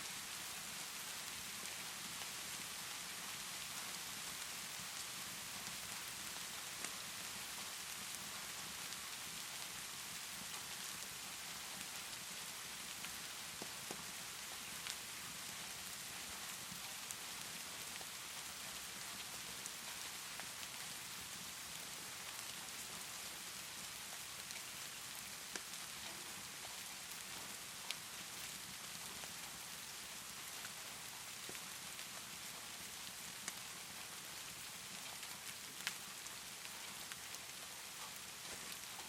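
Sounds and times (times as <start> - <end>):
rainfall hiss: 0.0 - 39.0
fireplace crackling: 0.1 - 39.0.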